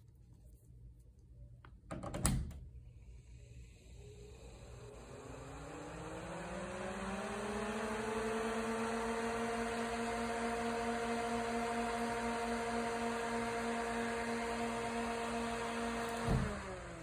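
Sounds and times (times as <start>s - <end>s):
fans whirring: 2.6s - 17.0s.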